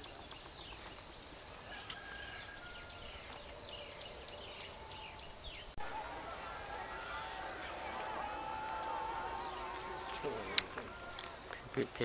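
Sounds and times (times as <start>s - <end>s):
field ambience hiss: 0.0s - 12.0s
small birds chirping: 0.0s - 12.0s.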